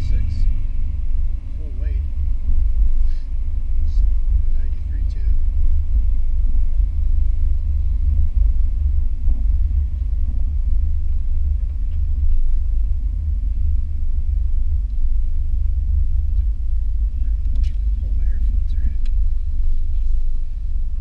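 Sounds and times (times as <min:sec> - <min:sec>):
car engine deep rumble: 0:00.0 - 0:21.0.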